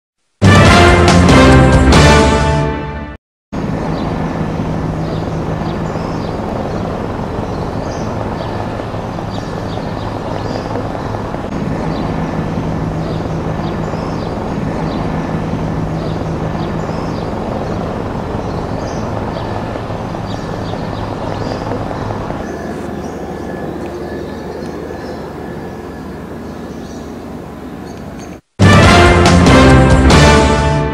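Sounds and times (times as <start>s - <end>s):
helicopter rotor and engine drone: 3.6s - 30.3s
high whine: 3.6s - 30.9s.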